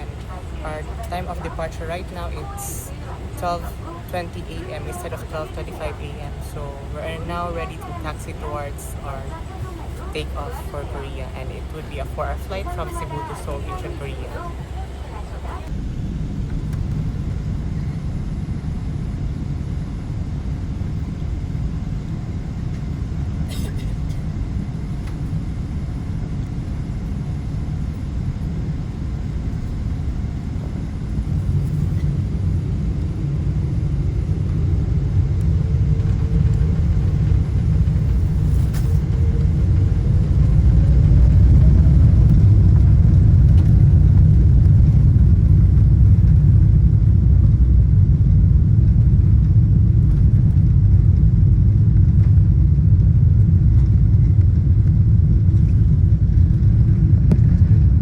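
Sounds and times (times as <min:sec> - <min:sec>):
low rumble of engines and wheels: 0:00.0 - 0:58.0
rising jet engine whine: 0:00.0 - 0:58.0.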